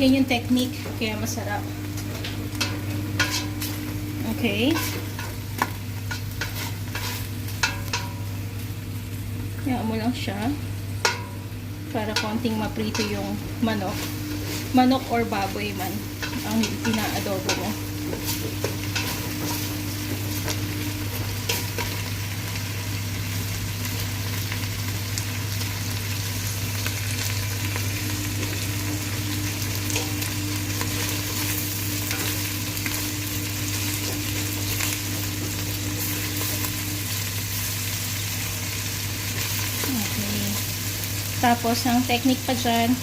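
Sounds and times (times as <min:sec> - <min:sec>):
chicken sizzling in butter: 0:00.0 - 0:43.0
steady low hum: 0:00.0 - 0:43.0.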